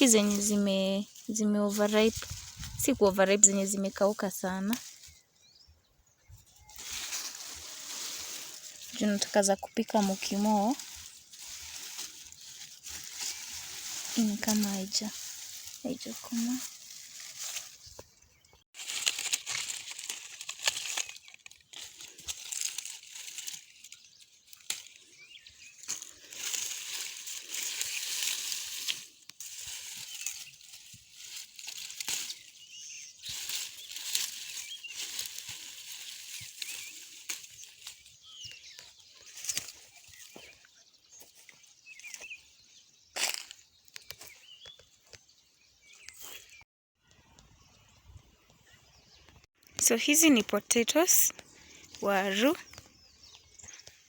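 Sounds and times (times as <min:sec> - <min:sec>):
dry plants rustling and crackling: 0:00.0 - 0:46.6, 0:49.2 - 0:54.0.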